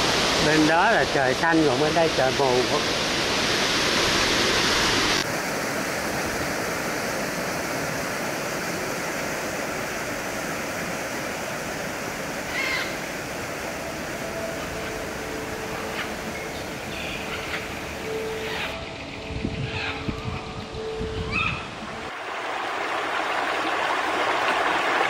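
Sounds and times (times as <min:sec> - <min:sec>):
waterfall rushing: 0:00.0 - 0:18.8, 0:21.8 - 0:25.0.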